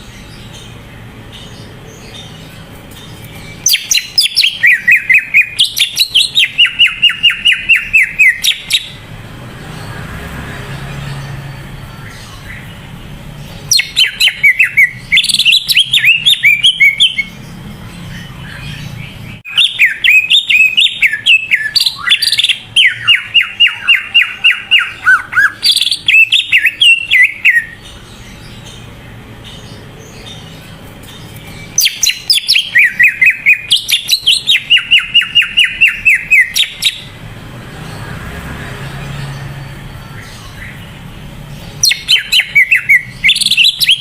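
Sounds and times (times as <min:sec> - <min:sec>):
bird singing rapid chattering notes: 0:00.0 - 0:44.0.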